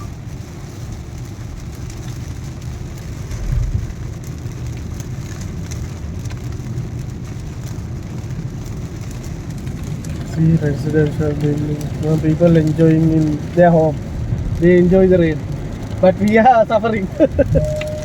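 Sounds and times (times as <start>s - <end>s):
car rumbling in slow traffic: 0.0s - 18.0s
raindrops ticking on a car: 0.0s - 18.0s.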